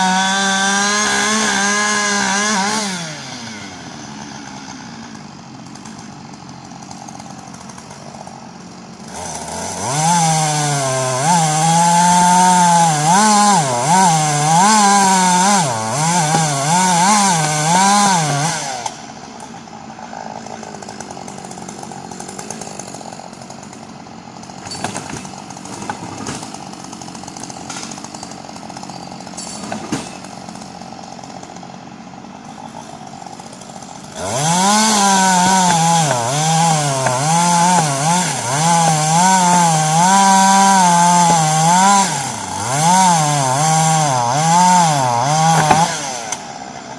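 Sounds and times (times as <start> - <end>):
chainsaw idling and revving: 0.0 - 46.9.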